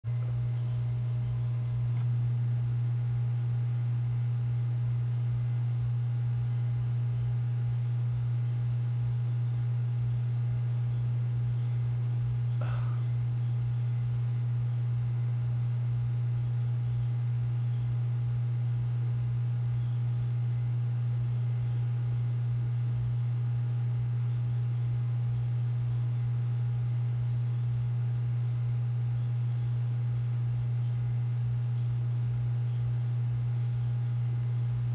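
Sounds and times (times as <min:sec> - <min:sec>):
low electronic hum: 0:00.0 - 0:34.9.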